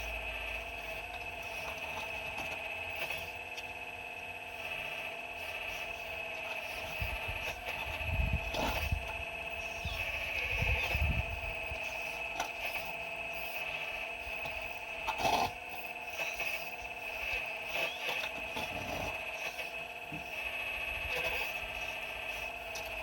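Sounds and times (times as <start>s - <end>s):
excavator whine: 0.0s - 23.0s.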